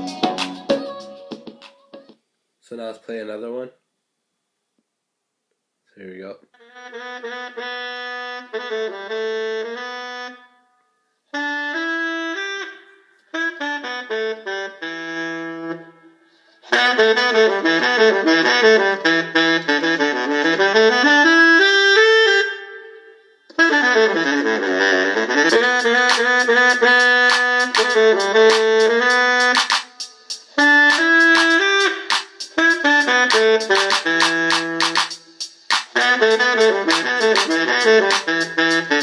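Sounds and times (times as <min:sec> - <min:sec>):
music from portable speaker: 0:00.0 - 0:02.3, 0:06.6 - 0:39.0.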